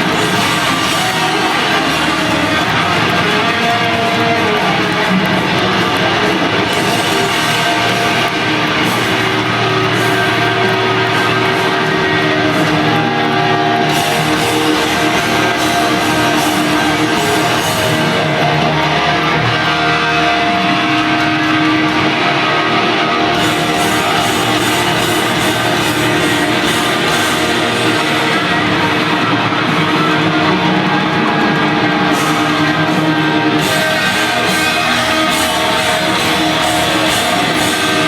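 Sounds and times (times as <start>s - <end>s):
electric guitars: 0.0s - 38.0s
hard rock band playing live: 0.0s - 38.0s.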